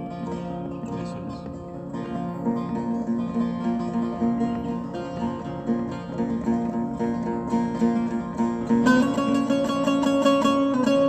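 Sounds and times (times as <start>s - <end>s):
long-necked lute plucking: 0.0s - 11.0s.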